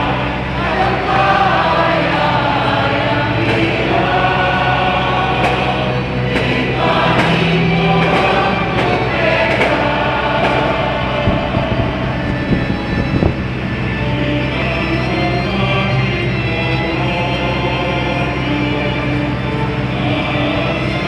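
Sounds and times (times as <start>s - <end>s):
choir singing a hymn: 0.0s - 21.0s.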